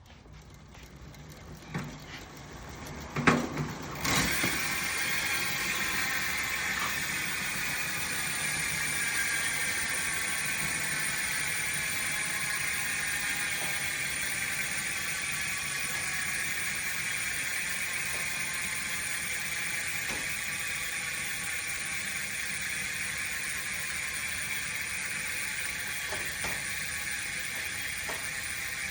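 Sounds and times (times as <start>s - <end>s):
bike hub freewheeling ratchet: 0.0s - 28.9s.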